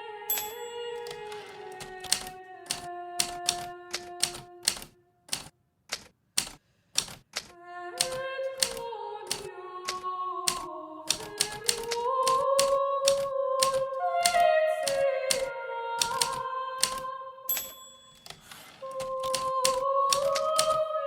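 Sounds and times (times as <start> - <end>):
typewriter key clacks: 0.3 - 20.8.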